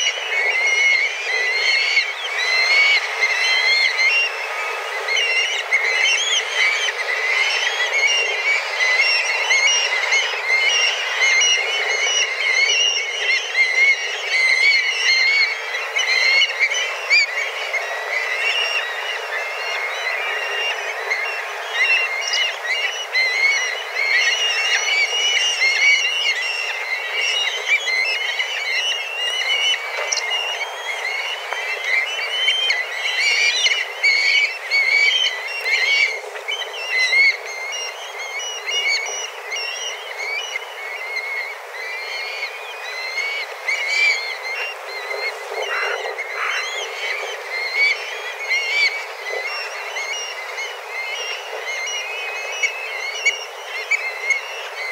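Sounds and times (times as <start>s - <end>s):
flock of kites whistling calls: 0.0s - 54.9s.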